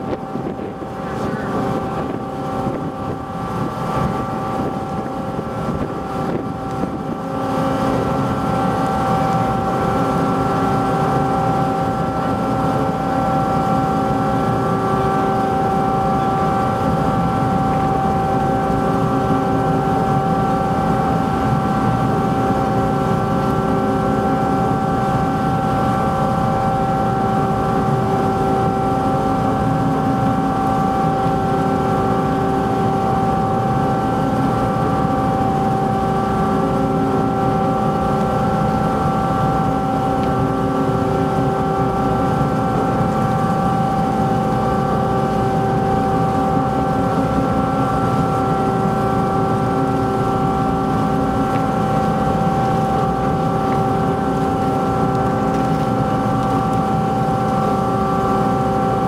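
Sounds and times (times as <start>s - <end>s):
mid-pitched machine whine: 0.0s - 59.0s
ship machinery low drone: 0.0s - 59.0s.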